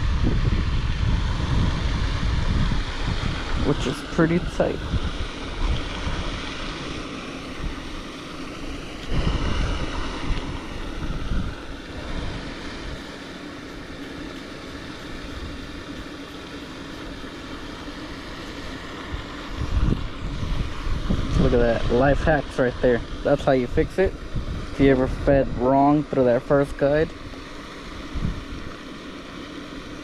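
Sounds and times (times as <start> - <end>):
wind rumbling on microphone: 0.0 - 28.8
steady low hum: 0.0 - 30.0.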